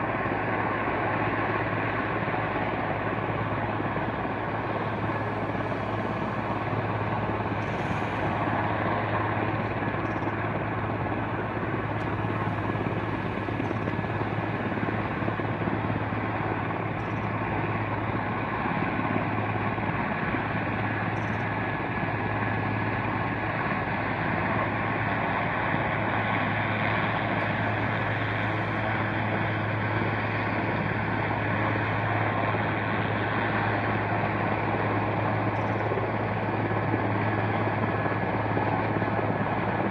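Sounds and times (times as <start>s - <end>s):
helicopter hovering: 0.0s - 39.9s.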